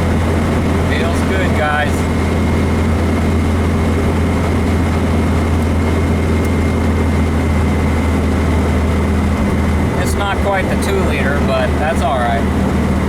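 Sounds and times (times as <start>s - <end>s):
car engine droning: 0.0s - 13.0s
road noise inside car: 0.0s - 13.0s.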